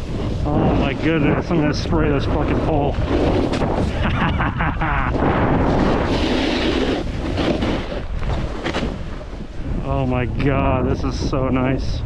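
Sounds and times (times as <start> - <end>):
snowboard edge scraping snow: 0.0 - 11.8
wind on microphone: 0.0 - 12.0.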